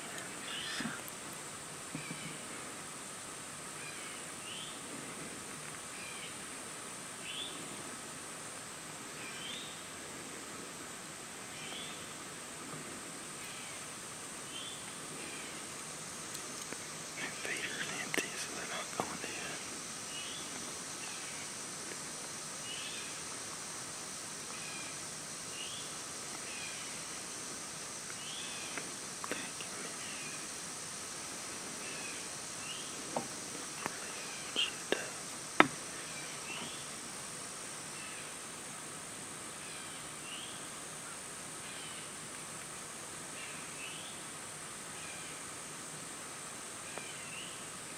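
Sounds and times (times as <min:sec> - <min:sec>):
high insect chorus: 0:00.0 - 0:47.9.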